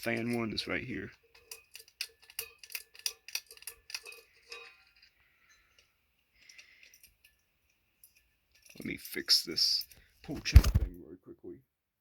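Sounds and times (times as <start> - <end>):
light chain rattles: 0.0 - 10.2.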